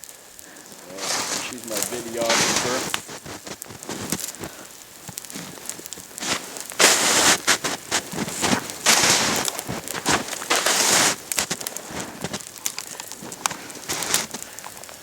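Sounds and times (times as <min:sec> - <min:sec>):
campfire crackling and popping: 0:00.0 - 0:15.0
rustling crunching bursts: 0:00.0 - 0:15.0.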